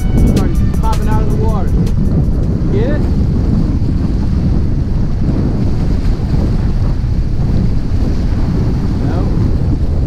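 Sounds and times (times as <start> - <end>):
wind buffeting microphone: 0.0 - 10.0
waves washing against rocks: 0.2 - 10.0.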